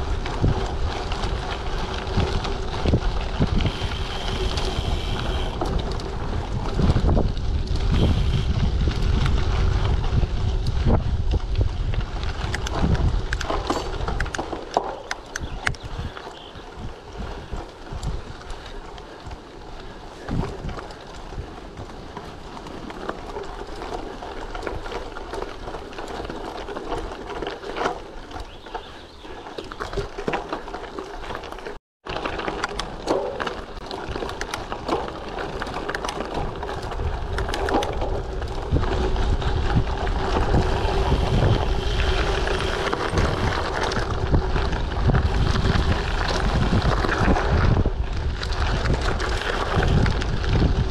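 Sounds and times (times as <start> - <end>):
wind buffeting microphone: 0.0 - 27.2, 32.3 - 50.9
bike rattles and knocks: 0.0 - 50.9
bike tyres on dirt: 0.0 - 50.9.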